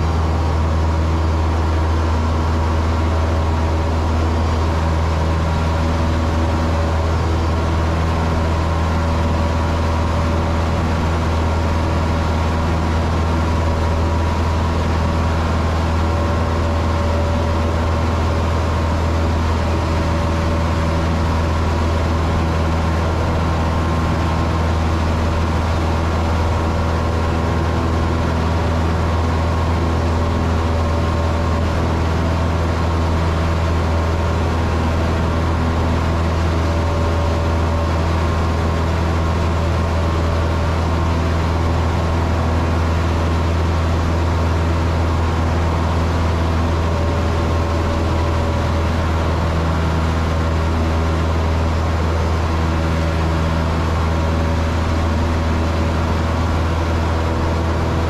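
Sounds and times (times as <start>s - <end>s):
small plane engine droning: 0.0s - 58.0s.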